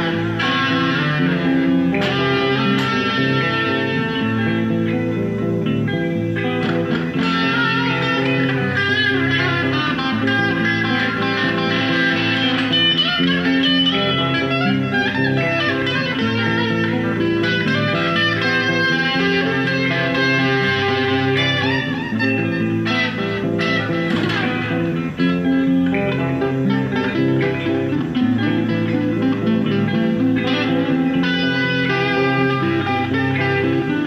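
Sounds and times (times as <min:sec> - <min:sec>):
electric guitar notes: 0:00.0 - 0:34.0.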